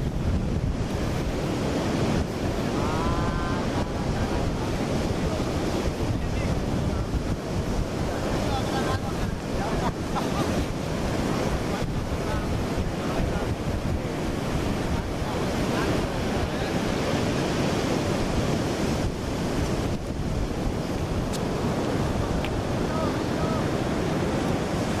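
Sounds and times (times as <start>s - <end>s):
surf breaking on a beach: 0.0s - 25.0s
wind buffeting microphone: 0.0s - 25.0s.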